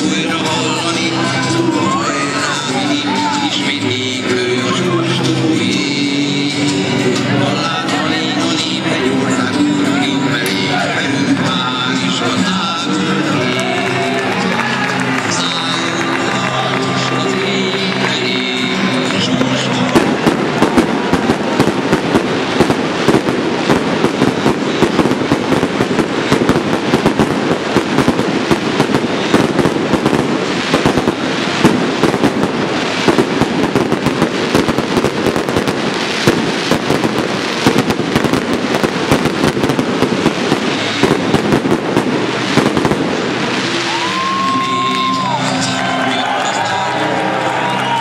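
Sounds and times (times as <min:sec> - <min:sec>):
fireworks crackling: 0:00.0 - 0:48.0.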